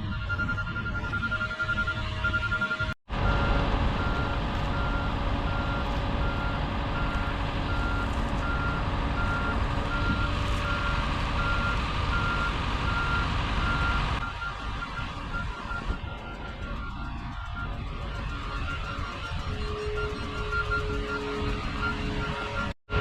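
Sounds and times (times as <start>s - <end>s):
heavy vehicle engine running: 0.0s - 23.0s
reversing alarm beeping: 0.0s - 23.0s.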